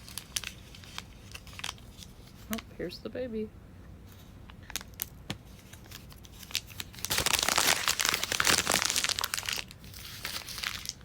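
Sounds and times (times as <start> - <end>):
plastic packaging clicks and rustles: 0.0 - 2.6, 4.5 - 11.0
plastic wrapper crinkling: 0.0 - 2.6, 4.6 - 11.0.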